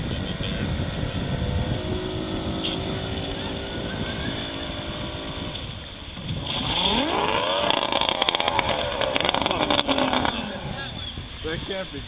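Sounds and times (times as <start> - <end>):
outboard motor revving: 0.0 - 11.2.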